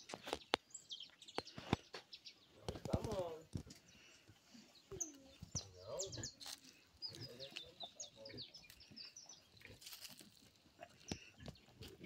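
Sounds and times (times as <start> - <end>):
faint birdsong chirps: 0.0 - 12.0.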